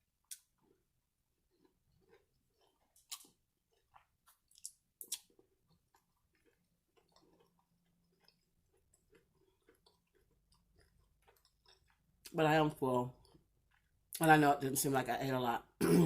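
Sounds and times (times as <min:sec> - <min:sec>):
person chewing with mouth clicks: 0:00.2 - 0:12.4, 0:13.1 - 0:14.3.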